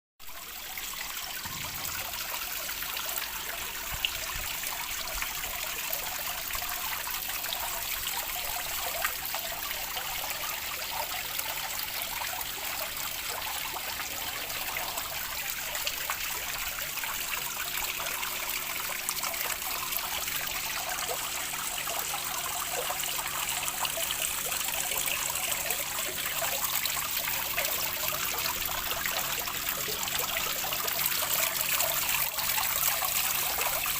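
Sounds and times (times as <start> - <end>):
water trickling: 0.2 - 33.9.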